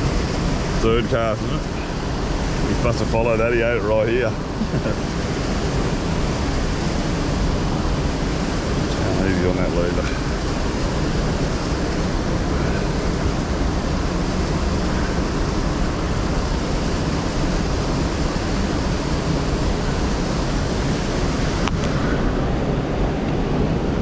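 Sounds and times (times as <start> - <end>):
river water rushing over rocks: 0.0 - 24.0.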